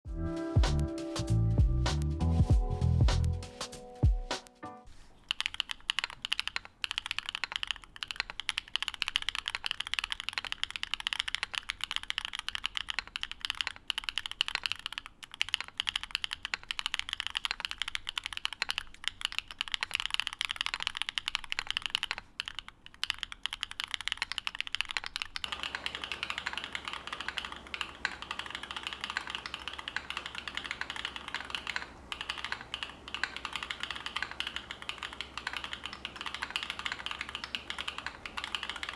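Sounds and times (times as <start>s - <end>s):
fast typing on mechanical keyboard: 5.2s - 38.9s
low background hum: 5.3s - 38.9s.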